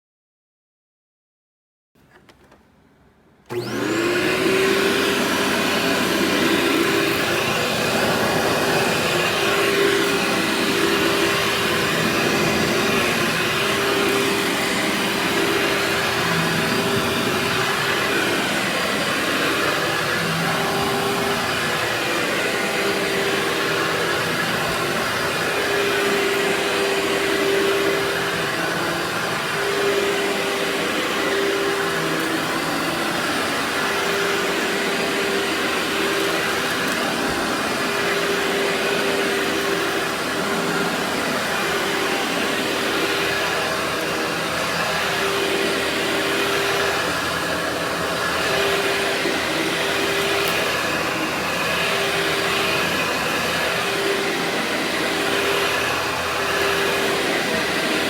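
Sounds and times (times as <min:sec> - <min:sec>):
vacuum cleaner motor whine: 0:03.5 - 0:58.0.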